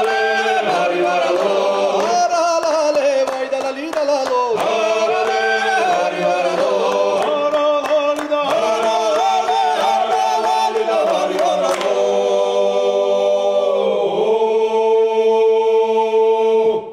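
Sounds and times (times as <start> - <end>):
rhythmic hand claps: 0.0 - 13.9
male choir singing a cappella: 0.0 - 16.9.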